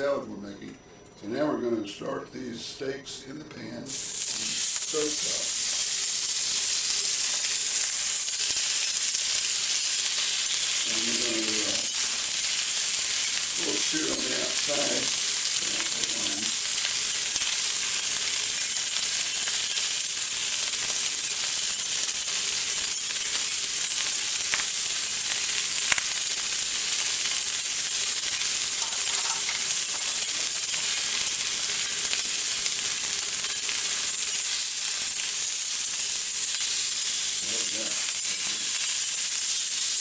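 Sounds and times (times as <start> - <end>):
steaks sizzling in a frying pan: 3.9 - 40.0.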